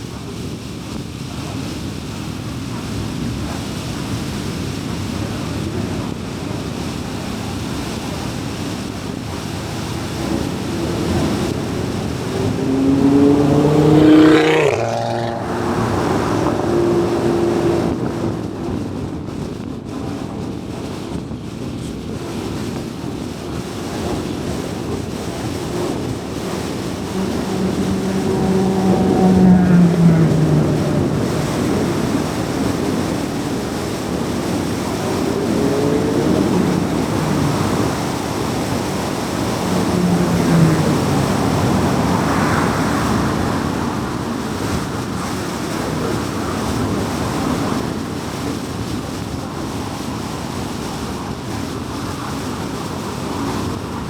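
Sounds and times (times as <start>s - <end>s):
car tyre and road noise: 0.0s - 54.0s
vehicle engine: 0.0s - 54.0s
vehicle passing close by: 7.5s - 20.5s, 22.2s - 54.0s.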